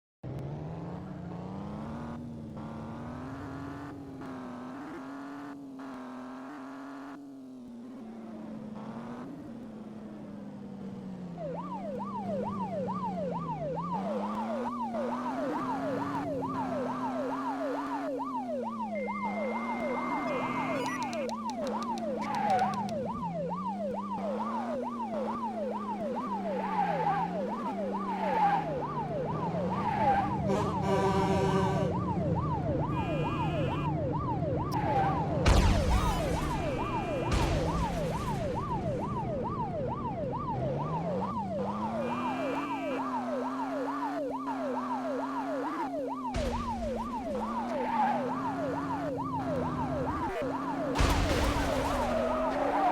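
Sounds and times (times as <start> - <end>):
siren yelping: 0.8 - 52.9.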